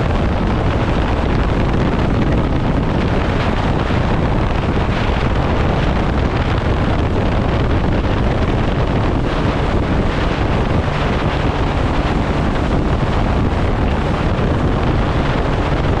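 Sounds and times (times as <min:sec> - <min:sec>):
jet ski engine: 0:00.0 - 0:16.0
rushing water: 0:00.0 - 0:16.0
wind blasting microphone: 0:00.0 - 0:16.0.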